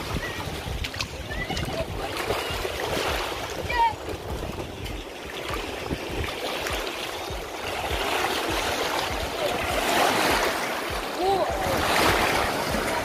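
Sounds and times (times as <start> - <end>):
waves washing ashore: 0.0 - 13.0
wind buffeting microphone: 0.0 - 13.0.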